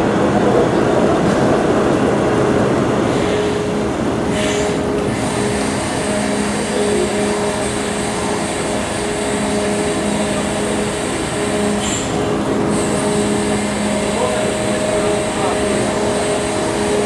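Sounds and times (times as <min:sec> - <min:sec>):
ship engines droning: 0:00.0 - 0:17.0.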